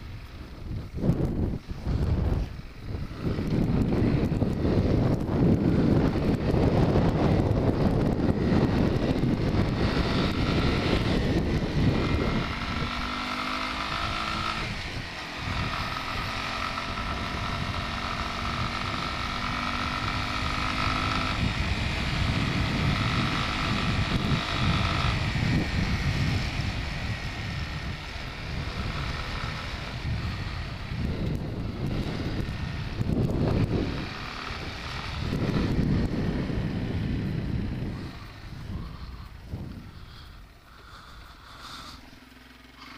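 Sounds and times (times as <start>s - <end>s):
wind buffeting microphone: 0.0s - 42.1s
atv engine running: 0.0s - 42.9s.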